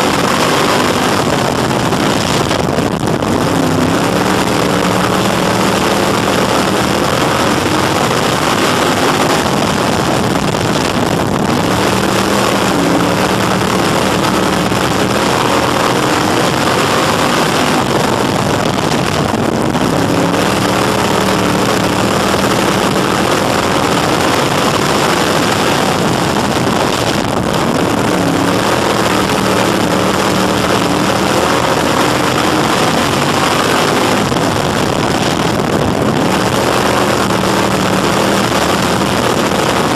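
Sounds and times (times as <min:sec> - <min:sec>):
race car engine running hard: 0:00.0 - 0:39.9
rush of noise: 0:00.0 - 0:39.9.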